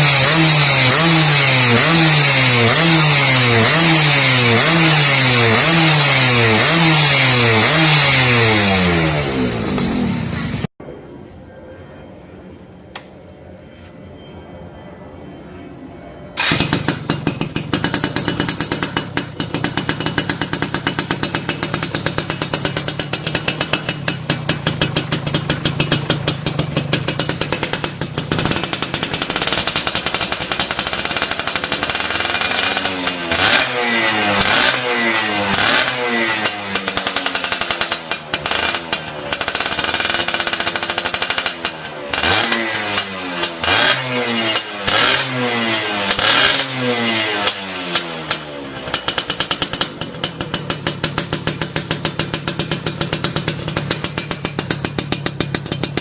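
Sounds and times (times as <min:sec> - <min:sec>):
motorcycle engine revving: 0:00.0 - 0:10.7, 0:16.4 - 0:56.0.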